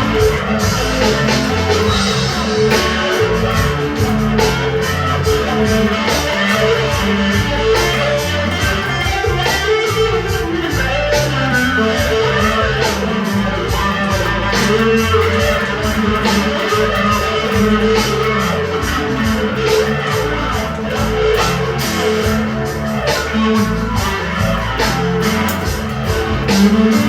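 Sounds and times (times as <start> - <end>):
backing track with steady beat: 0.0 - 27.0
distorted electric guitar: 0.0 - 27.0.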